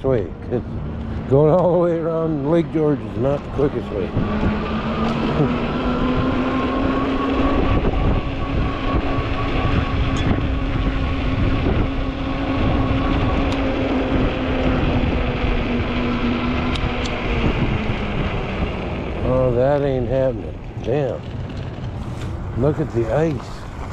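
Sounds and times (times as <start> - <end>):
wind on microphone: 0.0 - 23.9
electric motor whining: 0.2 - 23.8.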